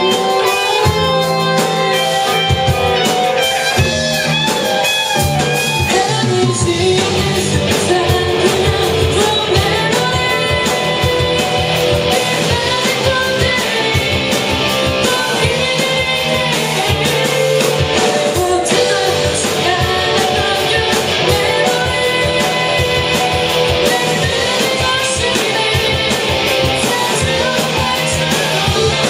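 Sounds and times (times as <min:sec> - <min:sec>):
electric guitar: 0:00.0 - 0:29.0
person singing: 0:00.0 - 0:29.0
rock band playing live: 0:00.0 - 0:29.0.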